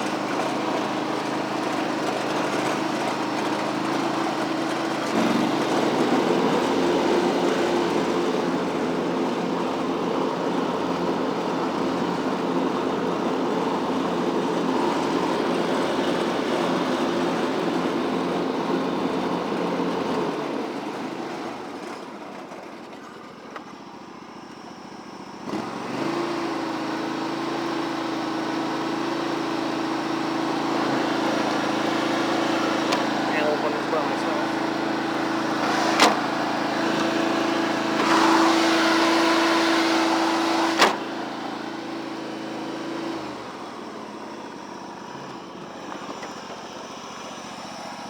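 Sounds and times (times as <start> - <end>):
lawn tractor engine running: 0.0 - 48.0.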